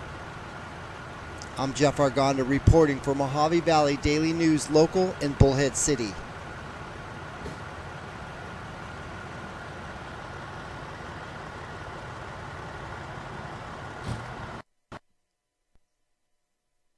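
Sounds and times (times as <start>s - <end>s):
idling vehicles and road traffic: 0.0s - 14.6s.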